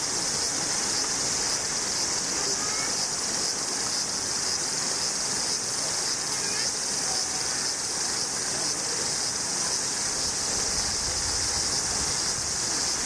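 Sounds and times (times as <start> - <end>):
high buzzing of insects: 0.0 - 13.0.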